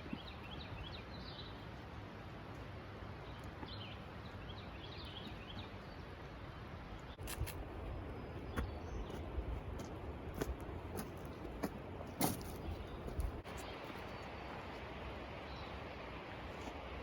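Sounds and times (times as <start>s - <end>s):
birds chirping: 0.0s - 1.8s, 3.2s - 16.8s
outdoor background hiss: 0.0s - 17.0s.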